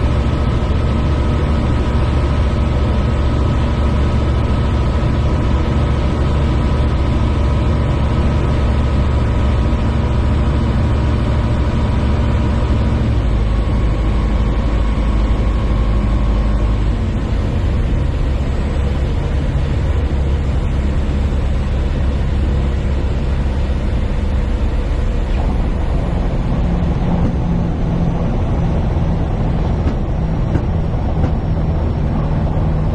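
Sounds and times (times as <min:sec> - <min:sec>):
propeller aircraft engine droning: 0:00.0 - 0:32.9.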